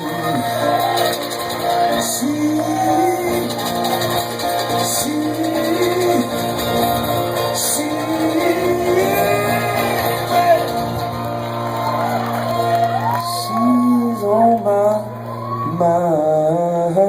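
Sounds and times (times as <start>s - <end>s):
live band music led by guitar: 0.0s - 17.0s.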